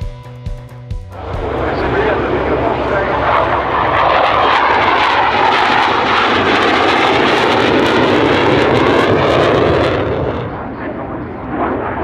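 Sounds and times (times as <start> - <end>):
fighter jet flying past: 1.2 - 12.0.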